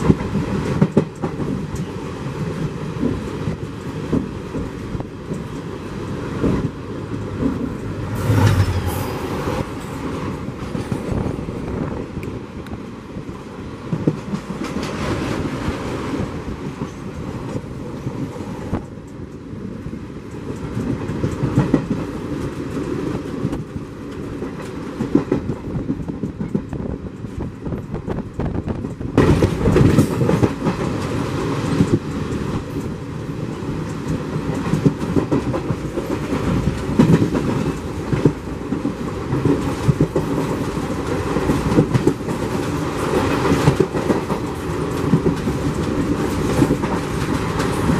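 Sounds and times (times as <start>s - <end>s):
passing train rushing: 0.0s - 47.9s
train rumbling: 0.0s - 47.9s.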